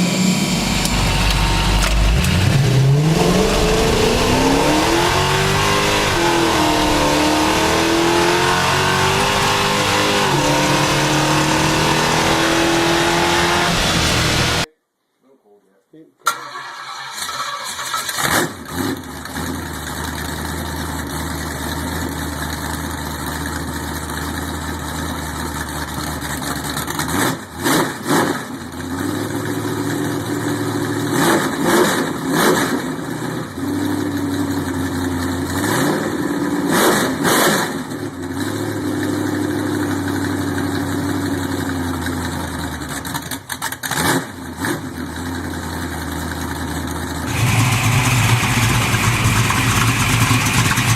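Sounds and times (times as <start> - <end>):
car engine idling and revving: 0.0 - 14.7, 17.2 - 50.9.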